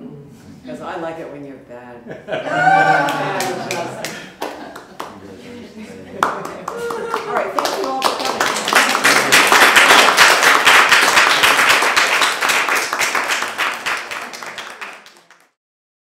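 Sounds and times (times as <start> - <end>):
audience applauding: 2.5 - 15.6.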